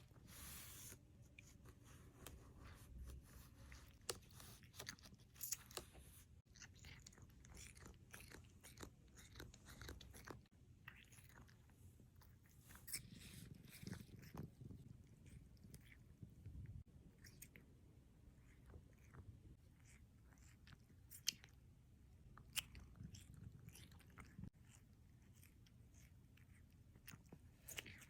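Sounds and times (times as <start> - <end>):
cat chewing and smacking: 1.2 - 28.0.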